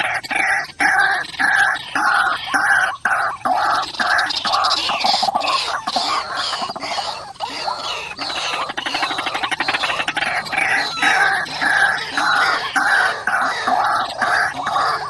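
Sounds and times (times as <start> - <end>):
waterhens calling: 0.0 - 15.0.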